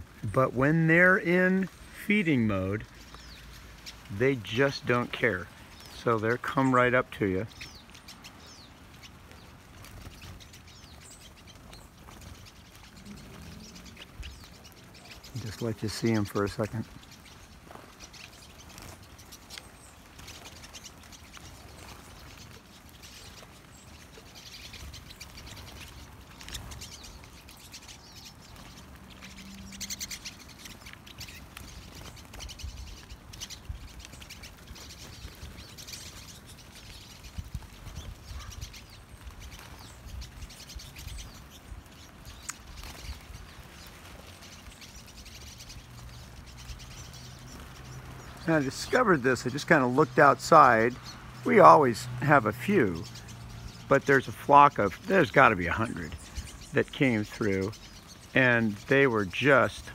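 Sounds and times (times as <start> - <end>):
flock of finches chirping: 0.0 - 59.9.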